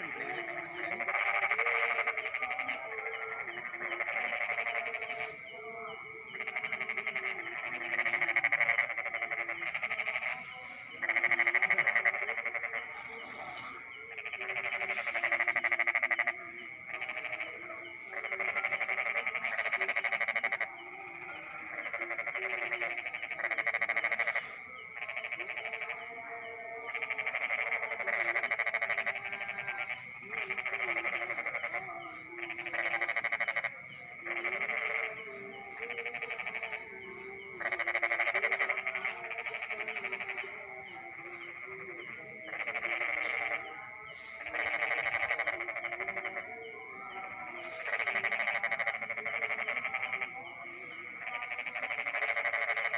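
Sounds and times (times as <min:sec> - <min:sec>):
frogs calling: 0:00.0 - 0:52.9
high-pitched insect trill: 0:00.0 - 0:52.9.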